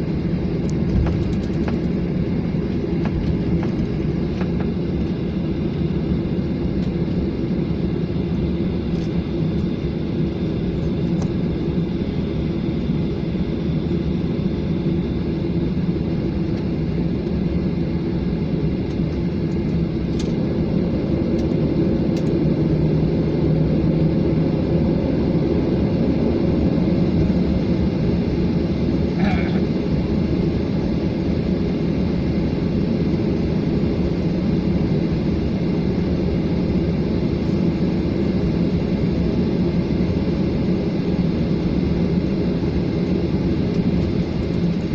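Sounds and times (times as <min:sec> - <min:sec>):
airliner engines droning: 0:00.0 - 0:44.9.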